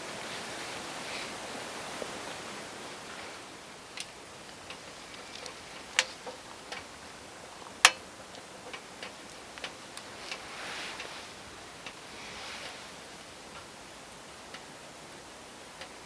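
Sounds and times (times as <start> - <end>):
wood fire crackling: 0.4 - 16.0.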